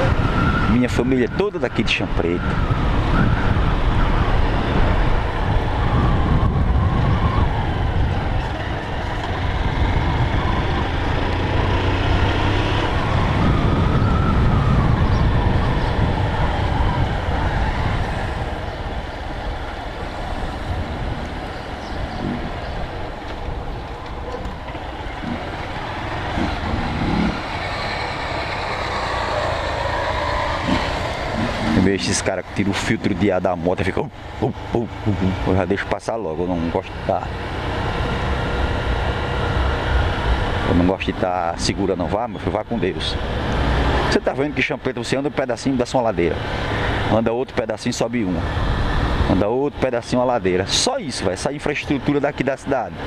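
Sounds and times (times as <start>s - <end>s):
road noise: 0.0s - 53.0s
motorcycle engine rumble: 2.4s - 49.6s.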